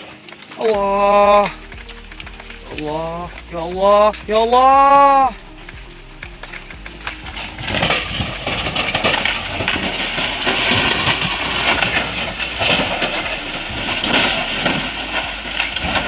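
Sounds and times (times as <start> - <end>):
bulldozer crashing and rumbling: 0.0 - 16.0.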